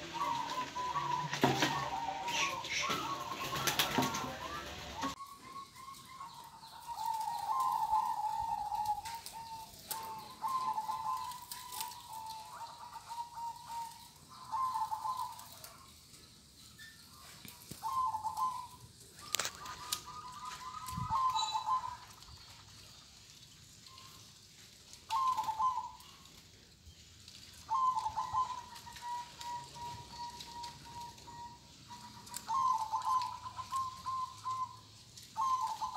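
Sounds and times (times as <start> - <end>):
doves cooing: 0.0 - 16.2, 16.8 - 26.7, 27.3 - 35.9.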